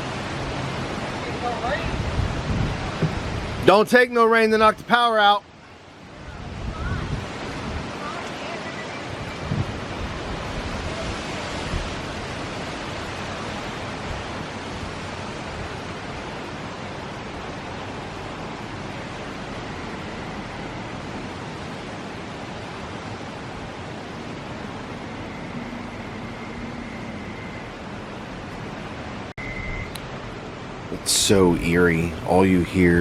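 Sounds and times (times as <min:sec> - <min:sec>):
strong wind rushing: 0:00.0 - 0:03.7, 0:06.1 - 0:32.8.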